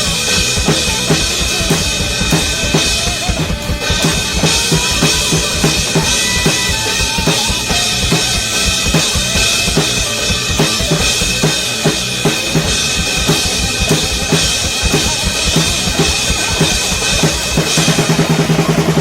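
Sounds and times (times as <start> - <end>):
drum kit playing: 0.0 - 19.0
metal music track: 0.0 - 19.0.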